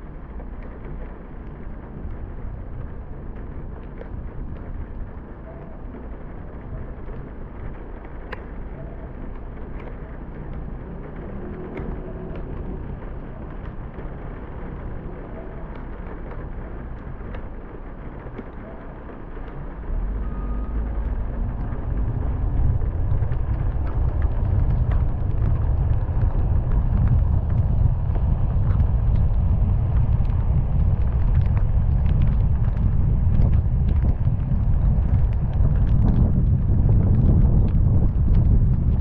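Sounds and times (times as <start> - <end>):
raindrops ticking: 0.0 - 39.0
road and wind noise: 0.0 - 39.0.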